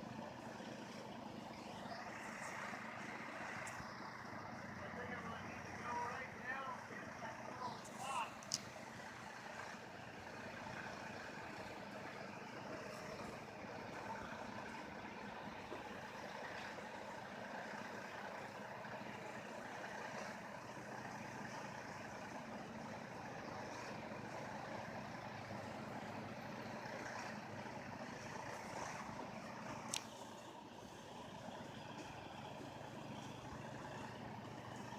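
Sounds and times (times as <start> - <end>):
engine droning: 0.0 - 34.9.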